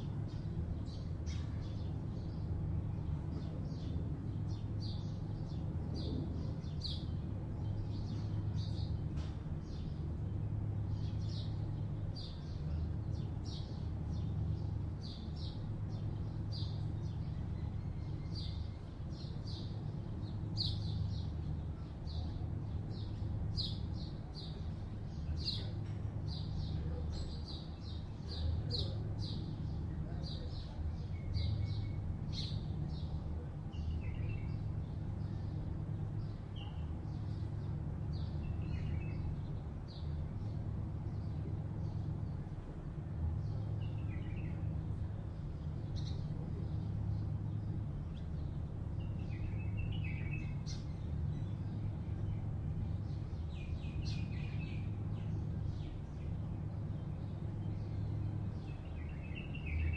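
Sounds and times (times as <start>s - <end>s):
city traffic hum: 0.0s - 59.9s.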